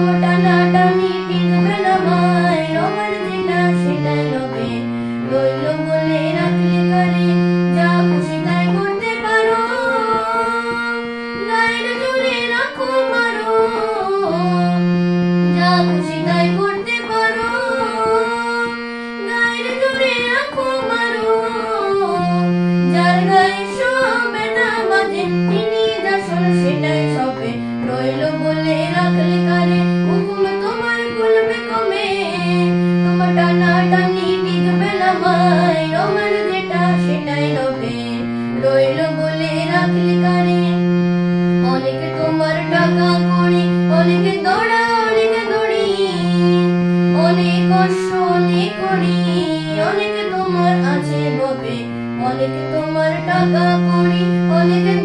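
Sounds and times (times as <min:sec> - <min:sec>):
boy singing: 0:00.0 - 0:55.0
harmonium: 0:00.0 - 0:55.0.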